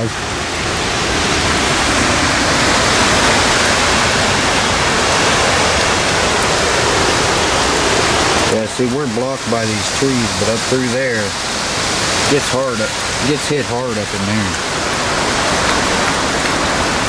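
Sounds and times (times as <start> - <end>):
wind and rain: 0.0 - 17.0.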